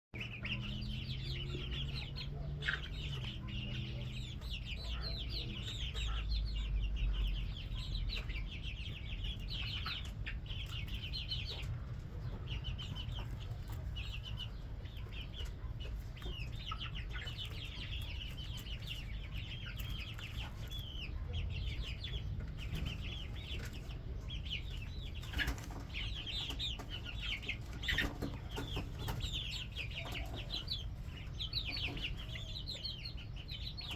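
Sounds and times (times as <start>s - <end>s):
chicks peeping and chirping: 0.2s - 33.9s.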